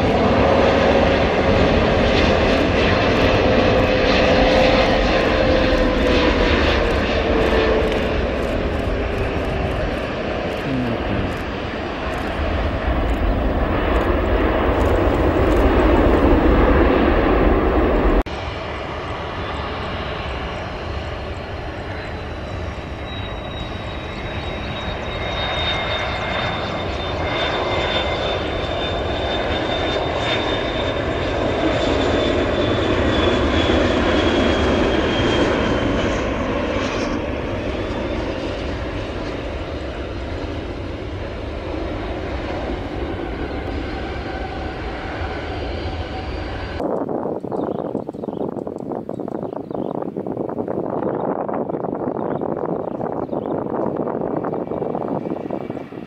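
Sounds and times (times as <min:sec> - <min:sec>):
jet engine low rumble: 0:00.0 - 0:56.0
jet engine noise: 0:00.0 - 0:56.0.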